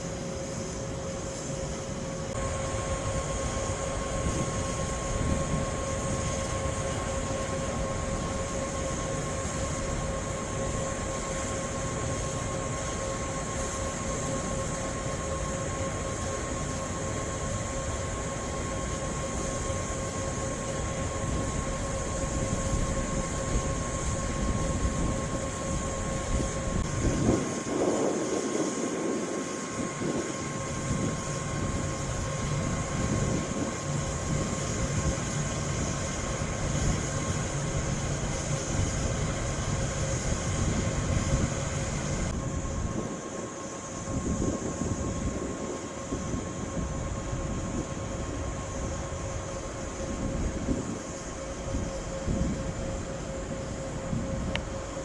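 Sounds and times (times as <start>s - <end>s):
constant humming tone: 0.0s - 55.0s
electric train rolling slowly: 0.0s - 55.0s.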